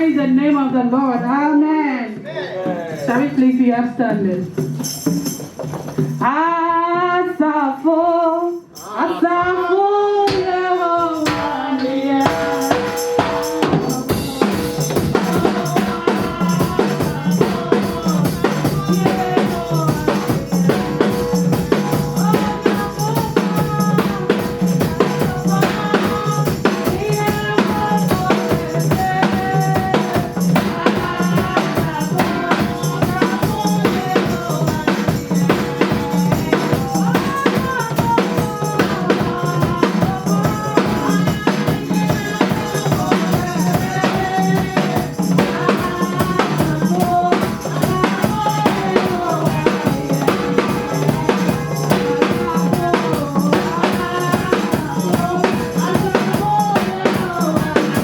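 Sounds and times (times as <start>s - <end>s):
praise band music: 0.0s - 7.1s, 7.8s - 58.0s
drum kit beat: 2.1s - 7.0s, 8.5s - 58.0s.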